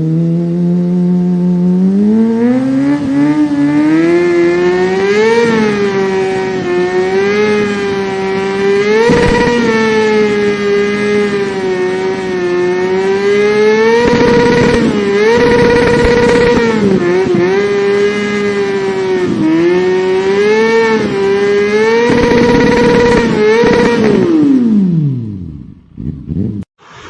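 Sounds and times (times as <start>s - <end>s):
motorcycle engine revving: 0.0s - 26.7s.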